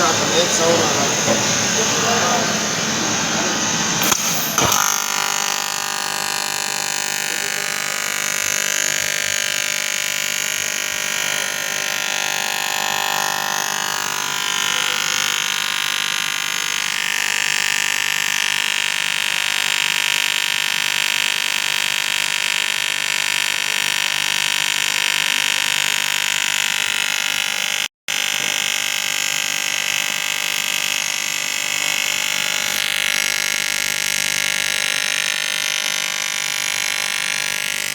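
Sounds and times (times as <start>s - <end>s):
welding arc buzzing and hissing: 0.0s - 37.9s.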